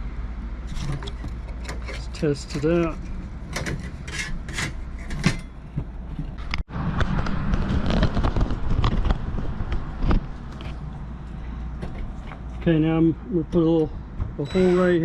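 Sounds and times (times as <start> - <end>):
knocks and scrapes of wood and metal: 0.6 - 15.0.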